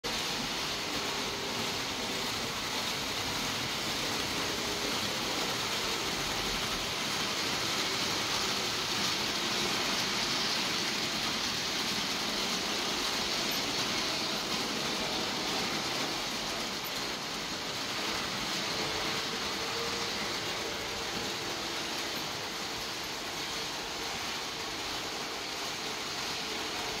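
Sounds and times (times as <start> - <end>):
model trains whirring on track: 0.0 - 27.0.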